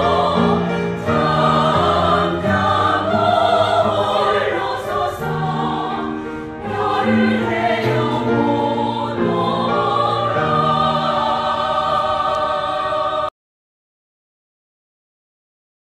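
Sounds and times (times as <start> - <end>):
choir singing in harmony: 0.0 - 13.3.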